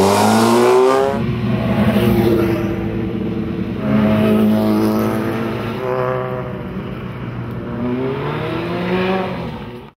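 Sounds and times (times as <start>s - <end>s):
racing car engine revving: 0.0s - 9.8s.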